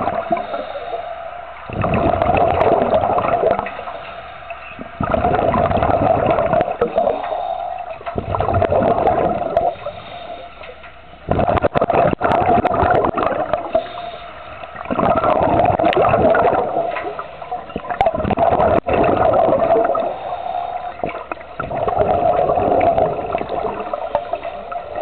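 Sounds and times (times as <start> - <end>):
underwater bubbles gurgling: 0.0 - 25.0.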